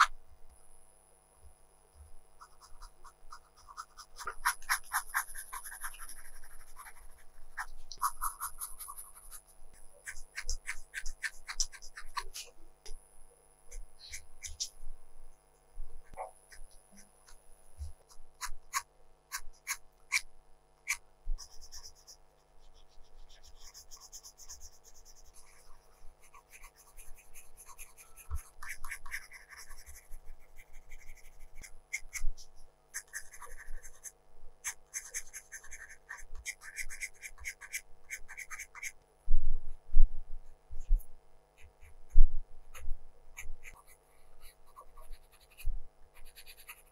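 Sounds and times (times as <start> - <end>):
colored pencil scratching on paper: 2.4 - 12.6, 13.7 - 14.8, 16.4 - 39.0, 41.6 - 46.9.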